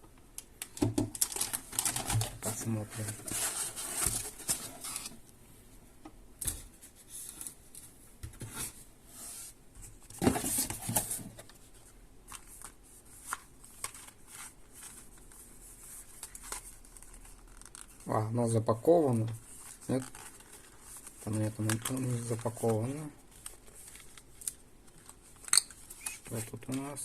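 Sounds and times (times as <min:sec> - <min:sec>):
cardboard and plastic rustling: 0:00.7 - 0:05.2, 0:06.5 - 0:18.3, 0:19.0 - 0:27.0.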